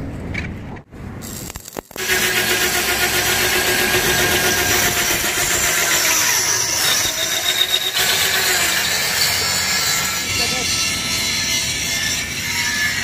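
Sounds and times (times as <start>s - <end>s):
electric drill boring through steel: 1.2s - 13.0s.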